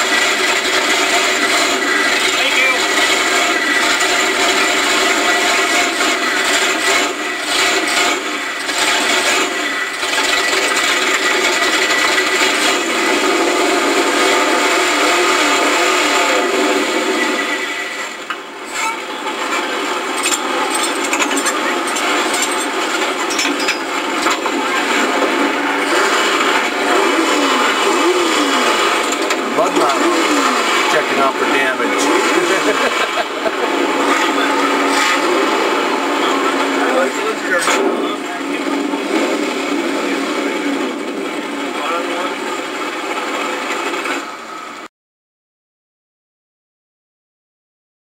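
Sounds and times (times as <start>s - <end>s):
truck engine droning: 0.0s - 44.9s.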